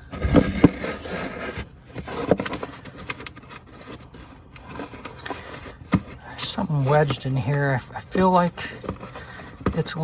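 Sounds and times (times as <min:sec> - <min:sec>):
plastic scraping and rubbing: 0:00.0 - 0:10.0.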